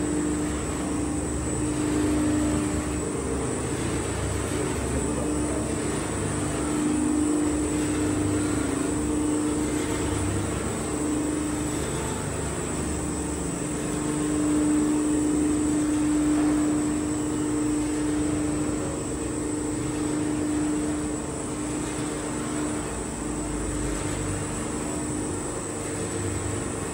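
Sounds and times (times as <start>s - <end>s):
oil press machine drone: 0.0s - 26.9s.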